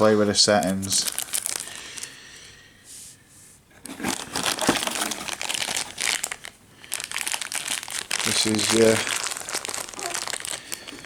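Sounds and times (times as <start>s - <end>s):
plastic packaging crinkling: 0.0s - 2.2s, 3.8s - 11.0s.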